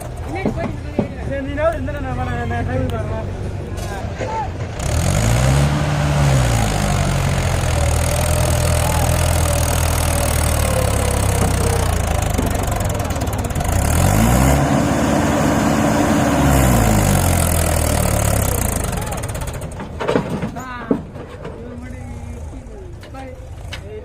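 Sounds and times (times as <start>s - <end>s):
tractor diesel engine revving: 0.0s - 20.6s.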